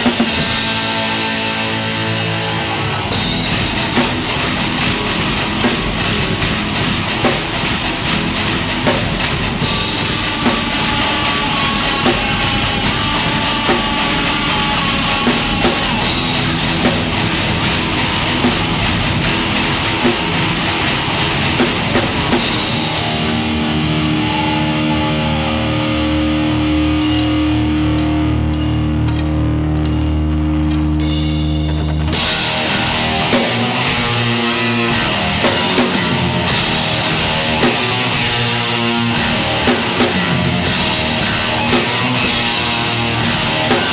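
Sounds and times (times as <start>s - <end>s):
rock band playing live: 0.0s - 43.9s.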